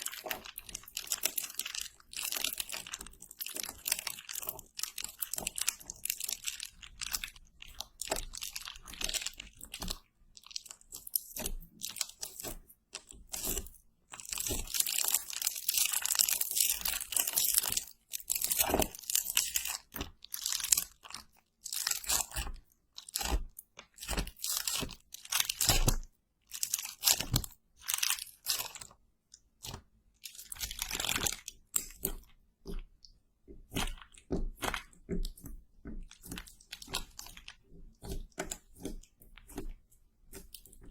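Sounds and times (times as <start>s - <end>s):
close crunching and crackling: 0.0s - 40.9s.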